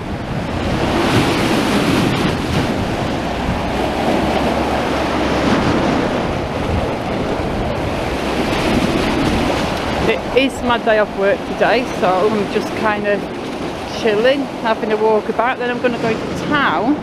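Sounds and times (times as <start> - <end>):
sea waves breaking on beach: 0.0 - 17.0
wind rumbling on microphone: 0.0 - 17.0.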